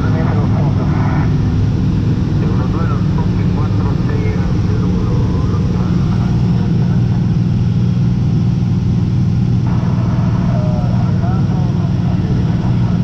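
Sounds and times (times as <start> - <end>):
aircraft engine droning: 0.0 - 13.0.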